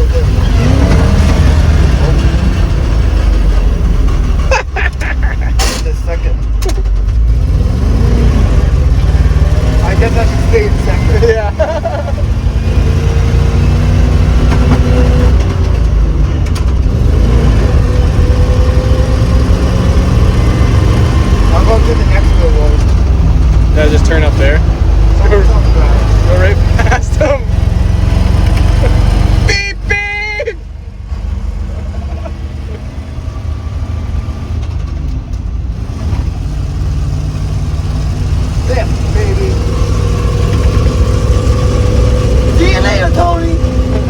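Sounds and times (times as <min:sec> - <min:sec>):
truck engine running under load: 0:00.0 - 0:29.4, 0:30.6 - 0:44.0.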